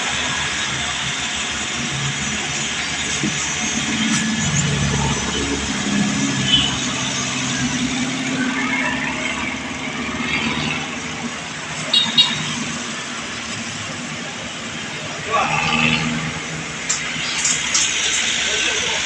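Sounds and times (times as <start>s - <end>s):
pickup engine running: 0.0s - 15.4s.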